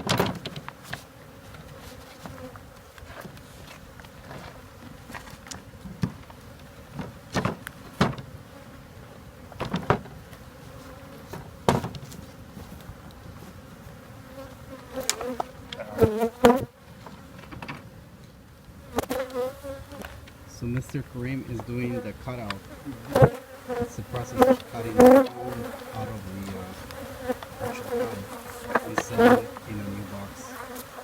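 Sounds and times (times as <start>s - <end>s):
honeybees buzzing: 0.6s - 17.5s, 19.0s - 31.0s.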